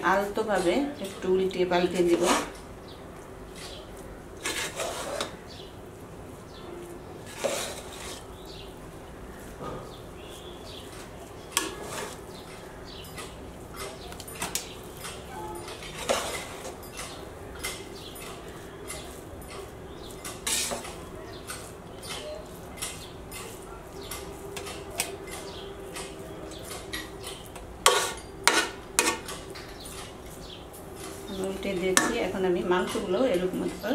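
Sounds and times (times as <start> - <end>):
spatula scraping a metal pot: 1.8 - 2.6, 3.6 - 5.6, 7.2 - 8.3, 10.3 - 33.9.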